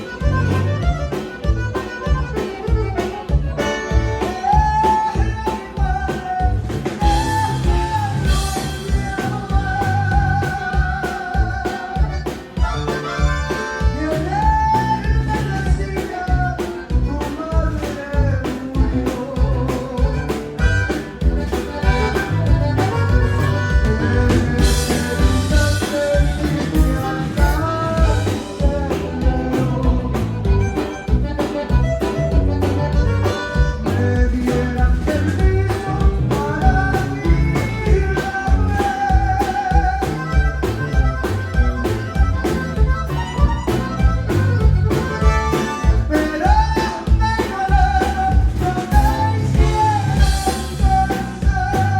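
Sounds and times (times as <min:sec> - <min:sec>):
accordion: 0:00.0 - 0:51.9
live band playing through speakers: 0:00.0 - 0:51.9
steady drum beat: 0:00.0 - 0:51.9.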